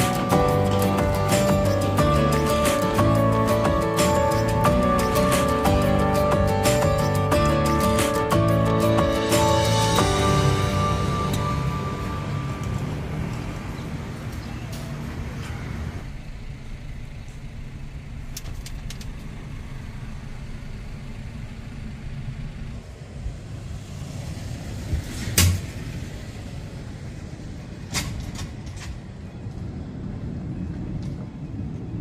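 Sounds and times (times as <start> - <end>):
car cabin road rumble: 0.0 - 32.0.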